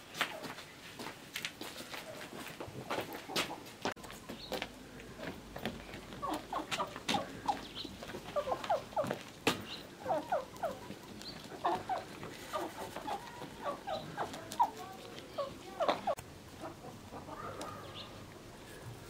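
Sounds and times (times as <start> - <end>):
hens clucking: 1.8 - 19.0.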